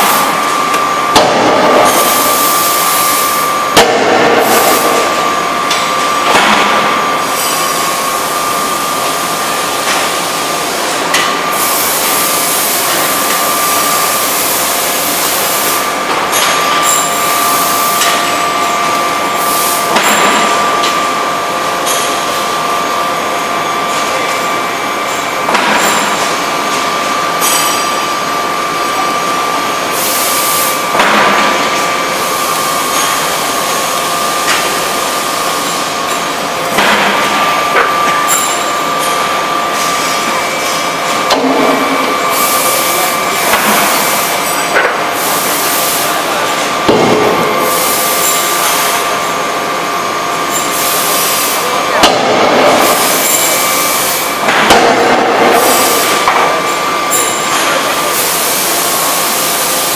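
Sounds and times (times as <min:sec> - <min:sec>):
forging hammer whine: 0:00.0 - 0:59.9
workshop noise: 0:00.0 - 0:59.9.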